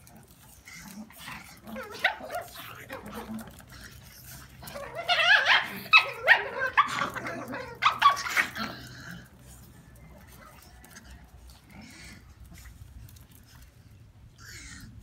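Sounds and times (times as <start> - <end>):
small dogs yipping and barking: 0.0 - 15.0.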